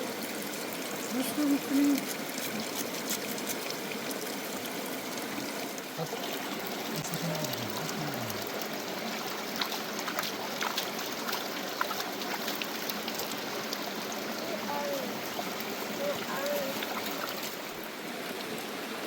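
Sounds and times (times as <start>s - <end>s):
water flowing over stones: 0.0s - 19.0s.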